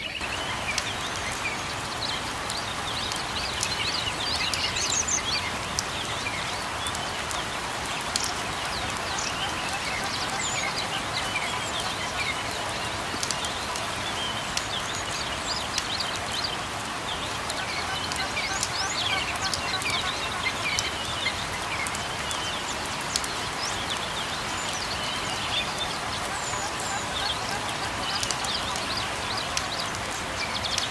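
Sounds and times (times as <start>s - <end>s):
light rain: 0.0s - 30.9s
small birds chirping: 0.0s - 30.9s.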